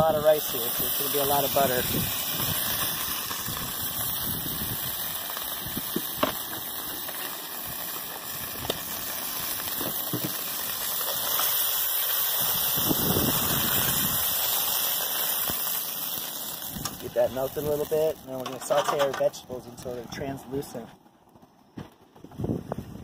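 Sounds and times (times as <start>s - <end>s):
butter sizzling in a pan: 0.0s - 19.1s.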